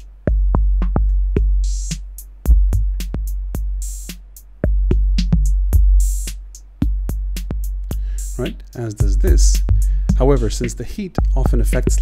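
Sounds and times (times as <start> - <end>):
fast ticking hi-hats: 0.0 - 12.0
deep kick drum: 0.3 - 4.0, 4.6 - 8.3, 9.0 - 10.6, 11.2 - 12.0.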